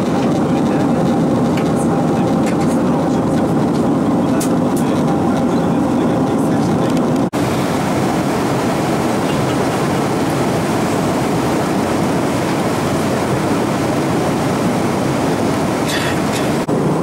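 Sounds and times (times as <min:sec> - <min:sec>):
airplane cabin noise: 0:00.0 - 0:17.0.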